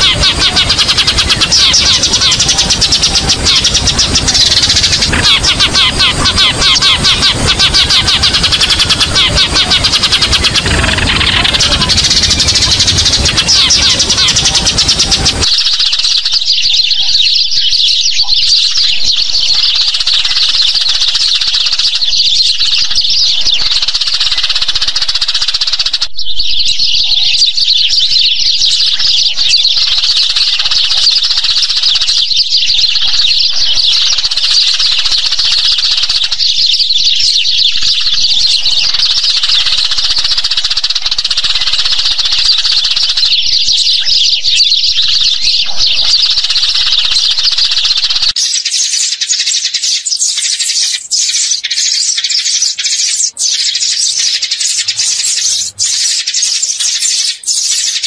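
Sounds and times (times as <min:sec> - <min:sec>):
sparrows chirping: 0:00.0 - 0:58.0.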